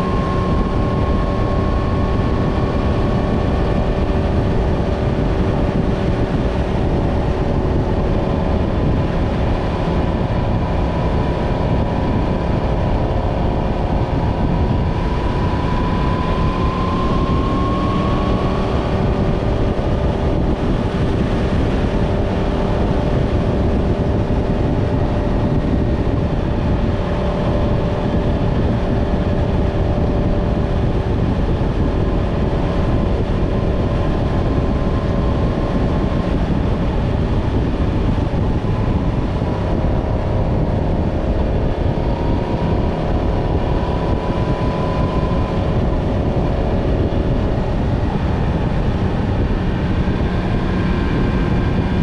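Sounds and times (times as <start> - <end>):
motorcycle engine cruising: 0.0 - 52.0
wind rush: 0.0 - 52.0.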